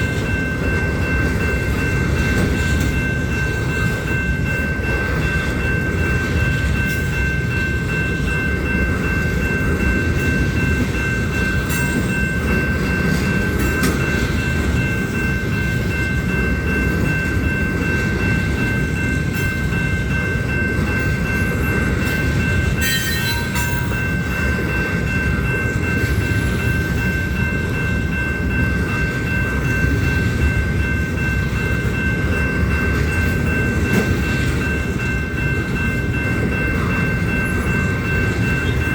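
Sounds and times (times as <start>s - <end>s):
freight train rumbling: 0.0s - 38.9s
train cars clanking: 0.0s - 38.9s.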